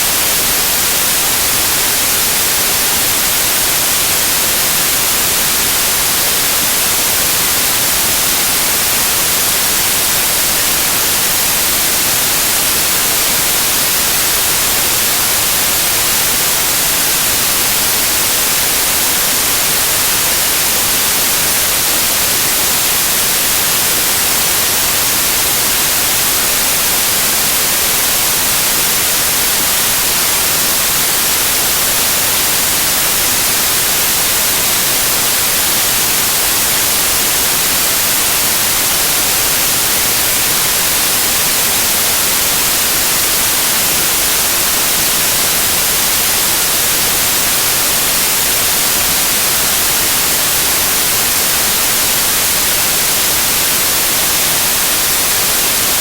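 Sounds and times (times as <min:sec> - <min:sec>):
loud white noise hiss: 0:00.0 - 0:56.0.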